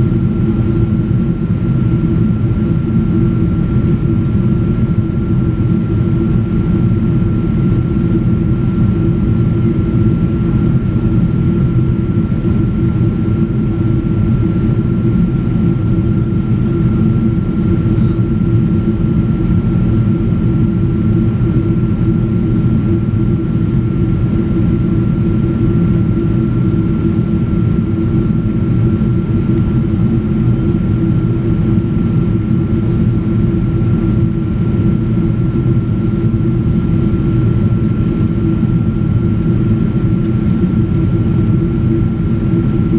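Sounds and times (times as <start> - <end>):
jet engine drone: 0.0 - 42.9
thin steady hum: 6.4 - 42.9.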